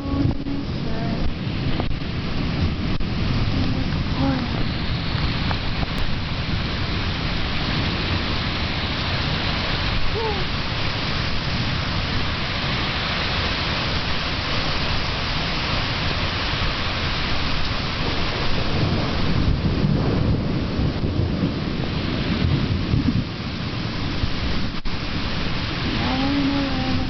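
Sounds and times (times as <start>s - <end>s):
heavy rain: 0.0s - 27.0s
low rumble of thunder: 0.0s - 27.0s.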